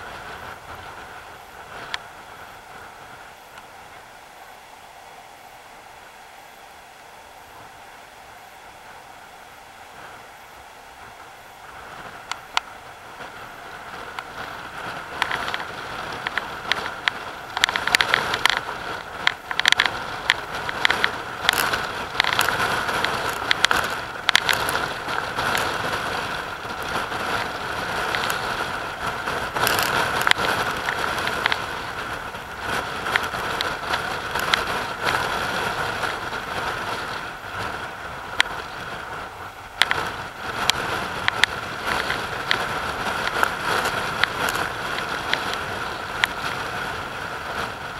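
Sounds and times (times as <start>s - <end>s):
wind gusting on microphone: 0.0s - 47.9s
rough sea breaking over rocks: 8.8s - 47.9s.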